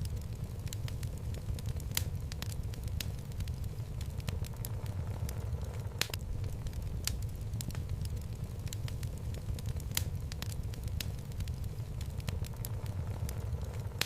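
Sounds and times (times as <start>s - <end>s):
fireplace flame rumble: 0.0s - 14.0s
wood crackling and popping: 0.0s - 14.0s.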